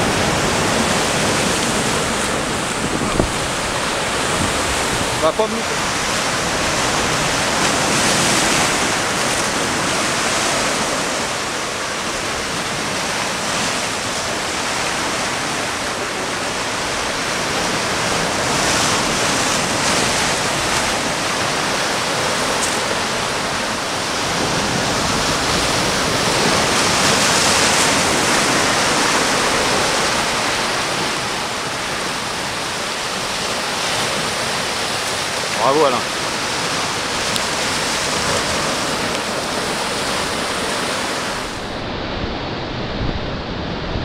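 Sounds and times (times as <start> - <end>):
sea surf breaking over rocks: 0.0 - 44.0.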